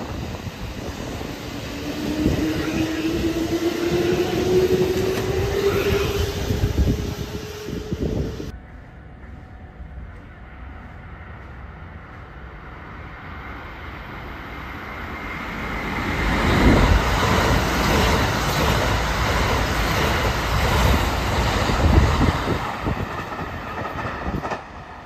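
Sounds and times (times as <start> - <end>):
train wheels rushing on rails: 0.0 - 25.0.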